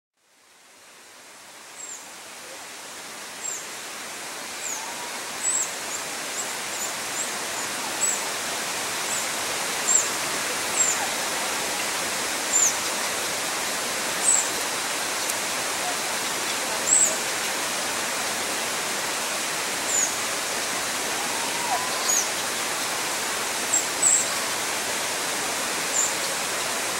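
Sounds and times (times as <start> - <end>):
flowing water rushing: 0.2 - 26.9.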